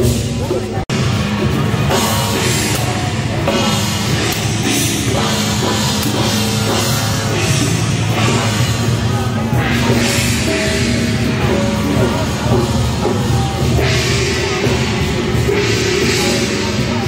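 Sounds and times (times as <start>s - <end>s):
rock music with drum beat: 0.0s - 17.0s.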